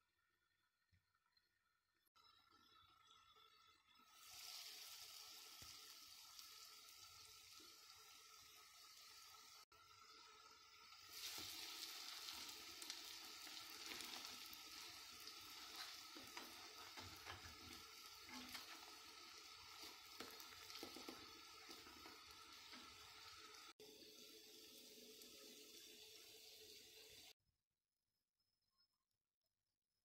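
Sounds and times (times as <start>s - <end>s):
hot oil sizzling: 2.5s - 27.4s.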